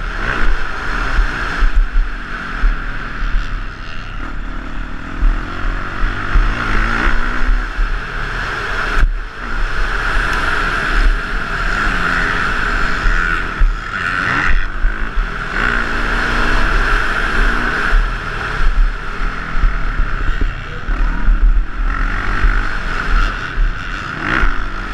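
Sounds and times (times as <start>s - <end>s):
motocross bike engine revving: 0.0s - 24.9s.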